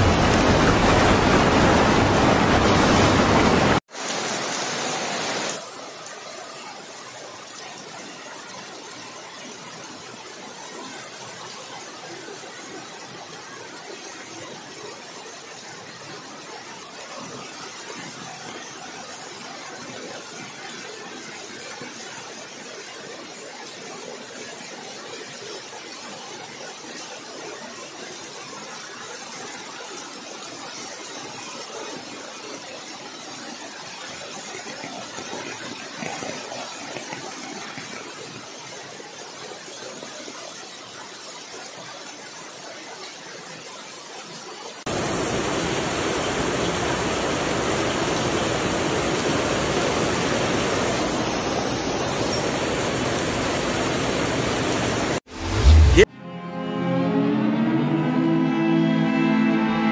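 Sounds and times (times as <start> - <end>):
floodwater rushing: 0.0 - 56.1.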